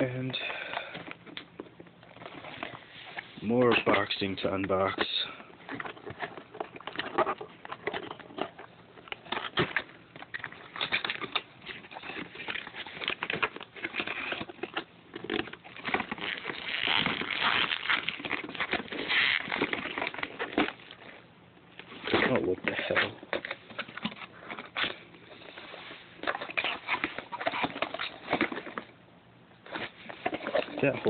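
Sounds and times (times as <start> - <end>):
plastic packaging crinkling: 0.0 - 21.2, 21.8 - 29.0.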